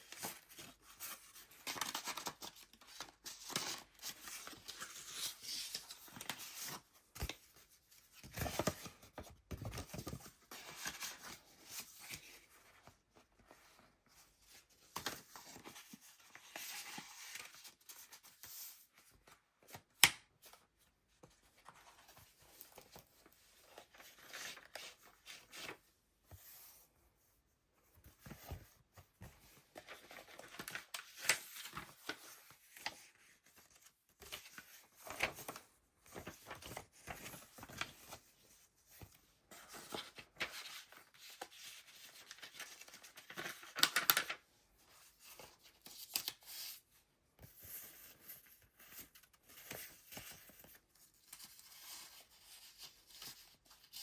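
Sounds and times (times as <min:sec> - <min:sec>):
paper pages rustling: 0:00.0 - 0:20.6, 0:21.2 - 0:26.8, 0:28.0 - 0:46.7.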